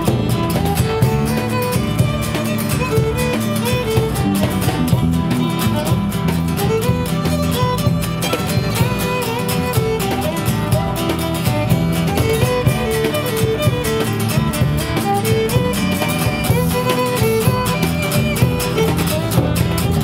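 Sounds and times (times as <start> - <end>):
fiddle melody: 0.0 - 20.0
steady beat: 0.0 - 20.0
strummed acoustic guitar: 0.0 - 20.0.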